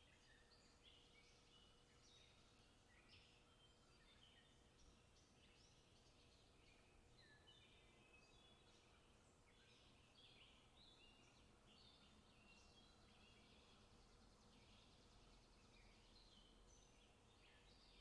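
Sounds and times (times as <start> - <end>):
low steady hiss: 0.0 - 18.0
small birds chirping: 0.0 - 18.0.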